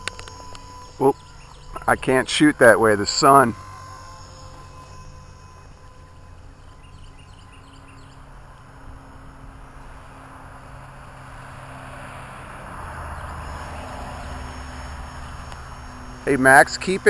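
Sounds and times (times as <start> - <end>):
rc helicopter rotor whir: 0.0 - 17.0.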